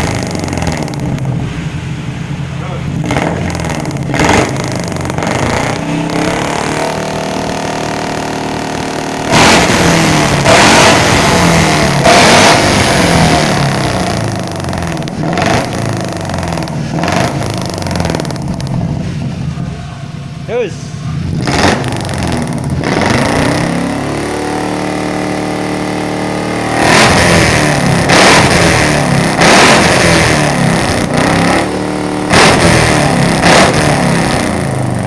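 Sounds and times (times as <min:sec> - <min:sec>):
pickup engine idling and revving: 0:00.0 - 0:35.0.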